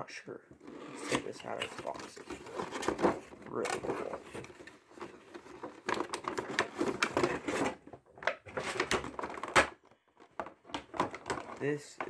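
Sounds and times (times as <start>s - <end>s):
cardboard box and plastic handling: 0.6s - 12.0s.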